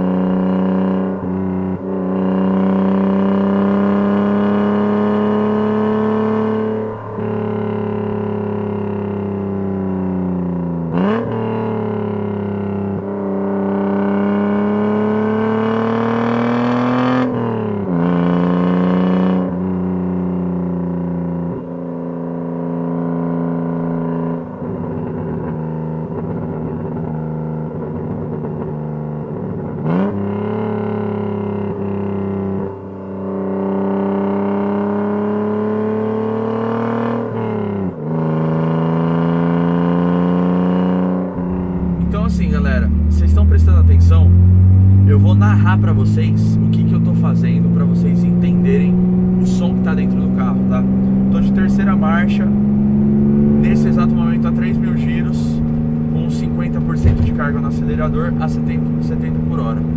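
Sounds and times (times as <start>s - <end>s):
car engine accelerating through gears: 0.0s - 59.9s.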